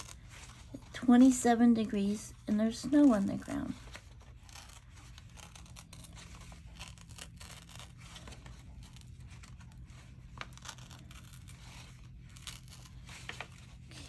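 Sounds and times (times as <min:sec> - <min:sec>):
paper tearing: 0:00.0 - 0:01.4, 0:02.6 - 0:14.0
faint low hum: 0:00.0 - 0:14.0.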